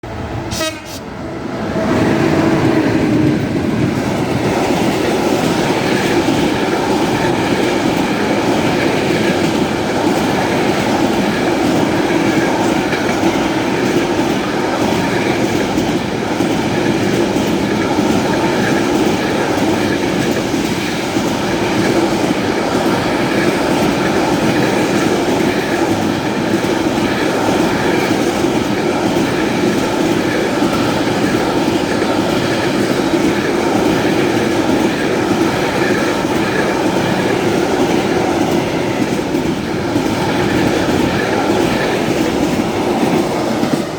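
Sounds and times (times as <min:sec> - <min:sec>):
train wheels rolling on rails: 0:00.0 - 0:43.9.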